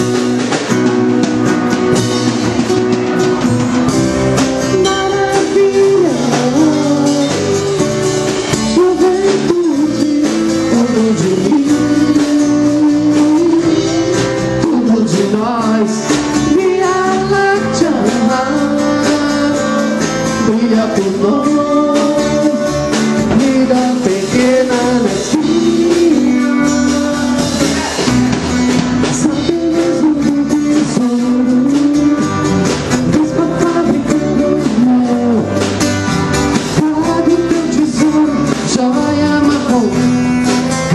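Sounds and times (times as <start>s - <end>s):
live band playing: 0.0s - 40.9s
strummed acoustic guitar: 0.0s - 40.9s
man singing: 2.6s - 40.9s.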